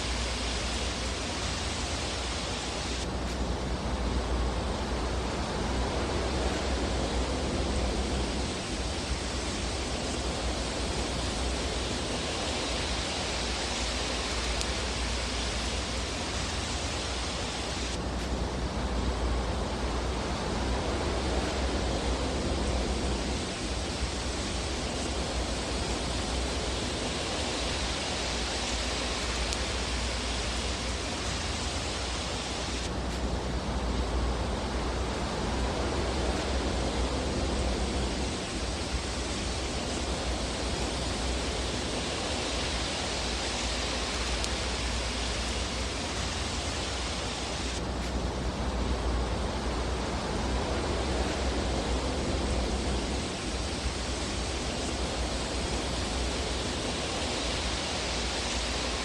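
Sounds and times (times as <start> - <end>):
fireplace fire hissing: 0.0 - 59.0.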